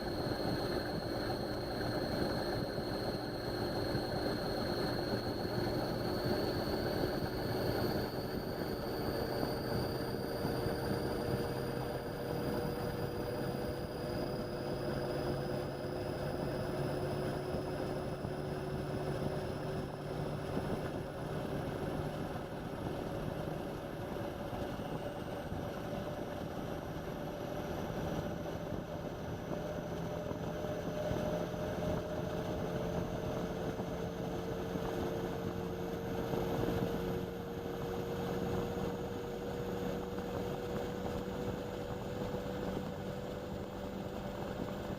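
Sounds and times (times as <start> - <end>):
washing machine motor whine: 0.0 - 44.9.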